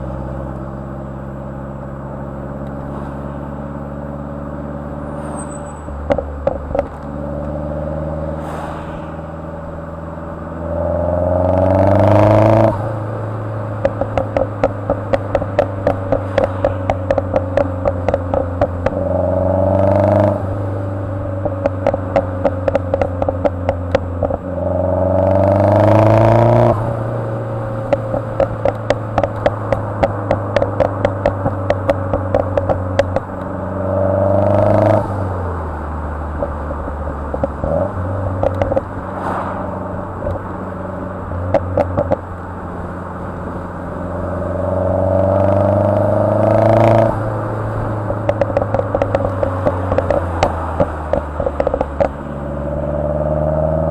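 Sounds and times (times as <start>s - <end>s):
car engine revving: 0.0s - 53.9s
exhaust popping and crackling: 0.0s - 53.9s.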